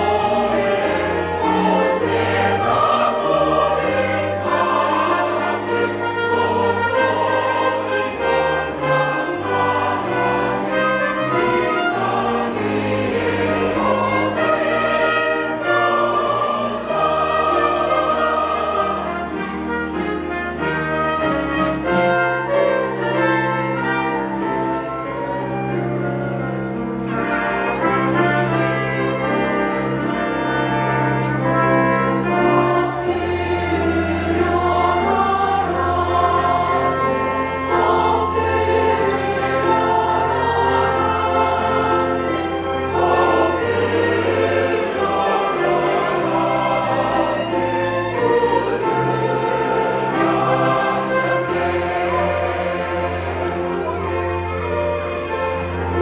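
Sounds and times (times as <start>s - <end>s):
choir singing: 0.0s - 56.0s
orchestral accompaniment: 0.0s - 56.0s
trumpet: 0.0s - 56.0s.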